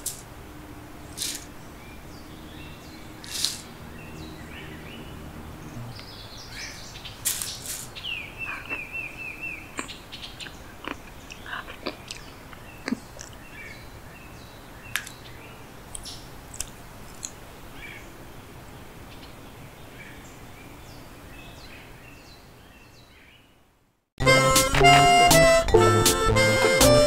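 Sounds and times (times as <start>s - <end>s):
birds chirping: 0.0s - 23.6s.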